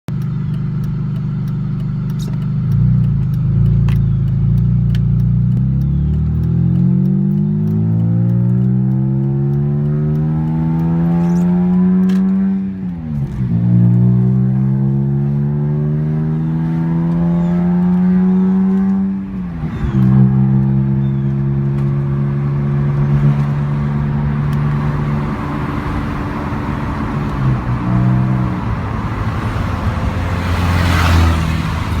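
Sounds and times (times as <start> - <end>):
car engine and exhaust revving: 0.1 - 32.0.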